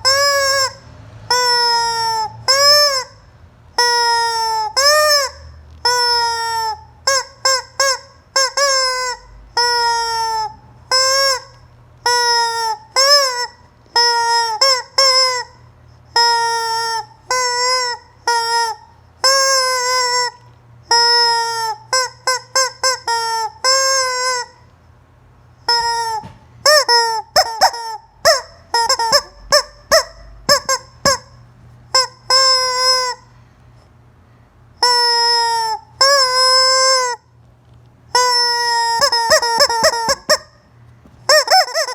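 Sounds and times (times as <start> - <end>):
rubber chicken toy squawking: 0.0 - 24.7, 25.5 - 33.4, 34.8 - 37.4, 38.1 - 41.9.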